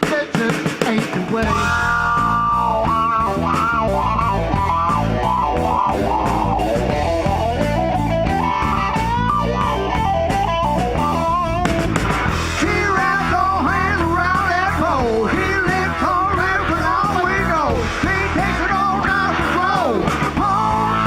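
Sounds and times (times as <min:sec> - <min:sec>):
bass guitar: 0:00.0 - 0:21.0
electric guitar lead line: 0:00.0 - 0:21.0
steady drum beat: 0:00.0 - 0:21.0.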